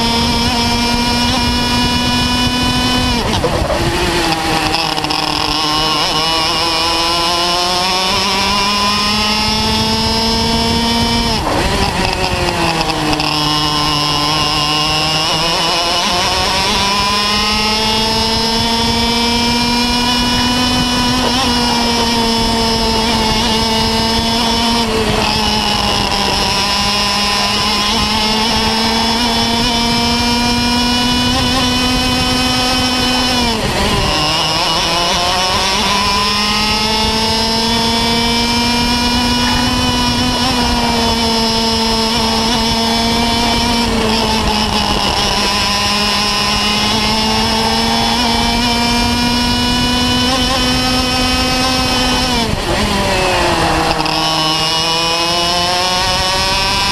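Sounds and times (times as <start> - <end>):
two-stroke kart engine revving: 0.0 - 56.9.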